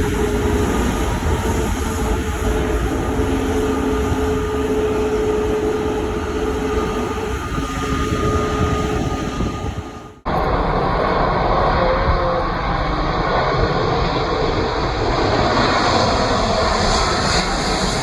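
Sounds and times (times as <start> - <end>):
jet engines rumbling and whining: 0.0 - 18.0.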